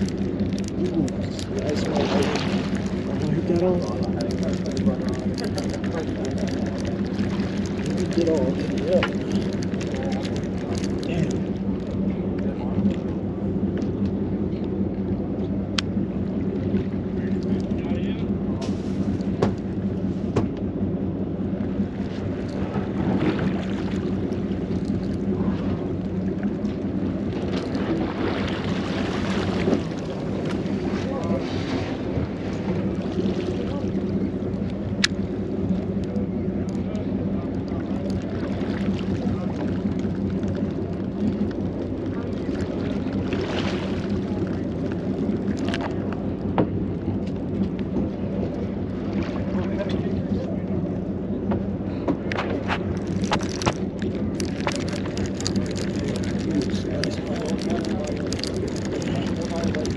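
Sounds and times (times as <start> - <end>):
boat engine running: 0.0 - 59.9
water noise: 0.0 - 59.9
wind: 0.0 - 59.9.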